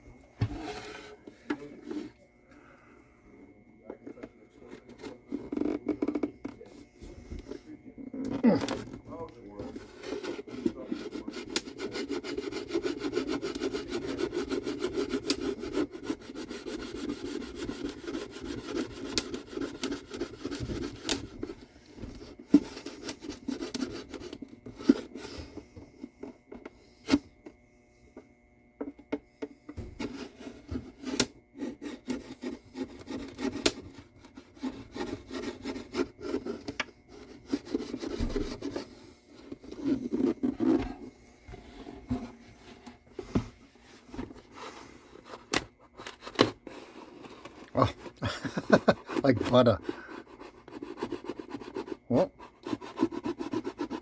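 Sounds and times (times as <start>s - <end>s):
tool scraping wood: 0.4s - 2.2s, 3.9s - 27.3s, 28.8s - 54.0s.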